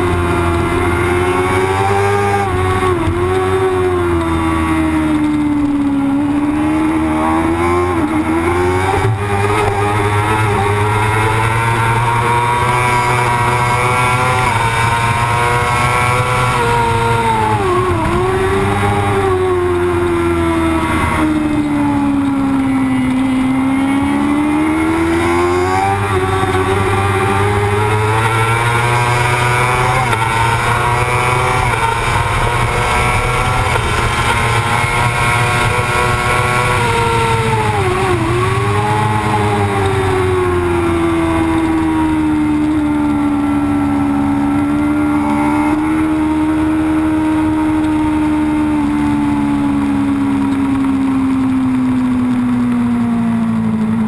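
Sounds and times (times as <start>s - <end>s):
racing motorcycle engine revving: 0.0s - 54.0s.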